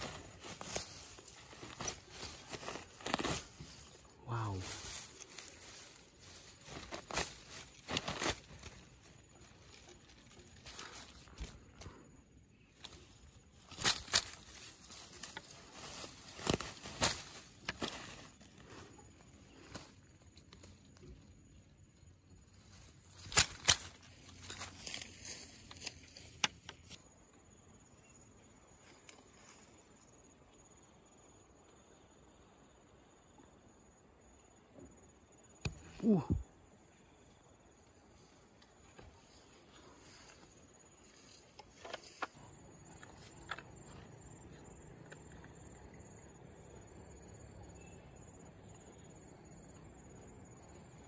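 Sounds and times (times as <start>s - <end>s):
dry grass and leaves rustling: 0.0s - 27.0s, 28.5s - 30.4s, 35.6s - 48.4s
insects chirping: 0.0s - 51.0s.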